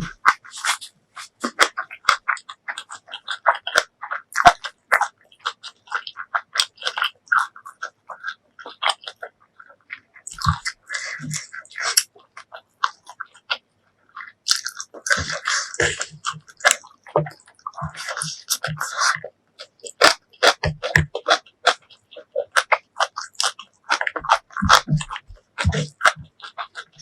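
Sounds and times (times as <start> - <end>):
chewing with wet mouth clicks: 0.0 - 27.0.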